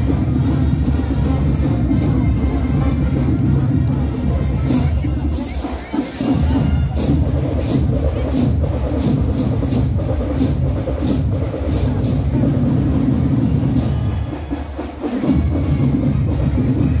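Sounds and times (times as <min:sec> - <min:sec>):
marching band drumming: 0:00.0 - 0:17.0.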